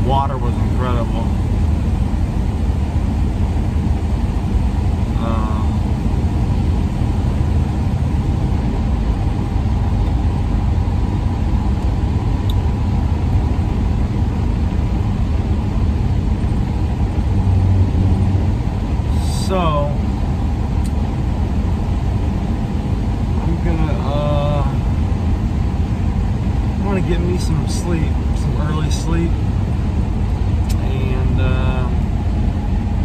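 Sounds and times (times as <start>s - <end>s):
van engine rumble: 0.0s - 33.0s.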